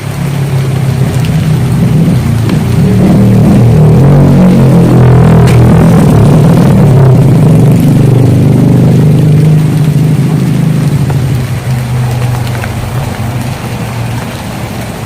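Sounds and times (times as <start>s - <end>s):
engine droning: 0.0s - 15.0s
rain: 0.0s - 15.0s.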